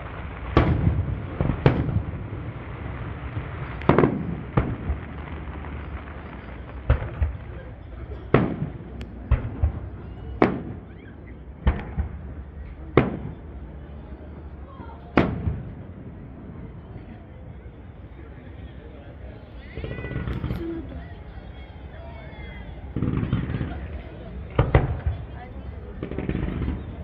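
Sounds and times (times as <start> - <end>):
fireworks bursting: 0.0 - 17.2, 18.2 - 27.0.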